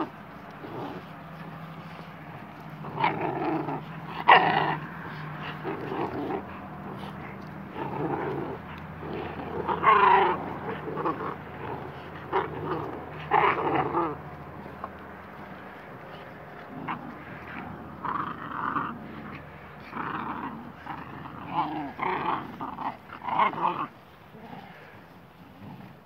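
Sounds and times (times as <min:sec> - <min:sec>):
dogs growling in play: 0:00.0 - 0:26.0.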